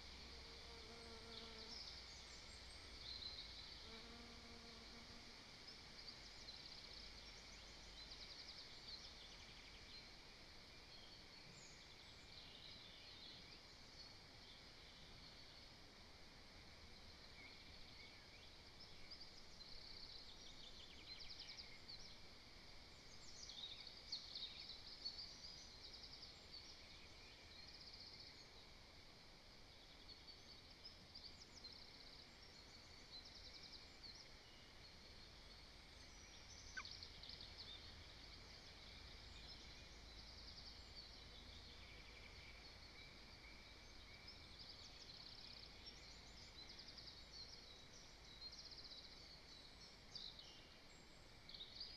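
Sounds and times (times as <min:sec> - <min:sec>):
soft outdoor hiss: 0:00.0 - 0:51.9.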